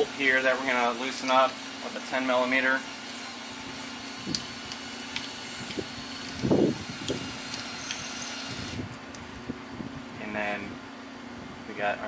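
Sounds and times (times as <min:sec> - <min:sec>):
steady fan hum: 0:00.0 - 0:12.0.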